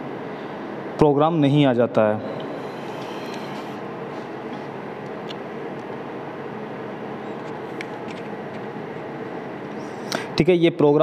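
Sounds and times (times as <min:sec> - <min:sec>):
factory machinery hum: 0:00.0 - 0:11.0.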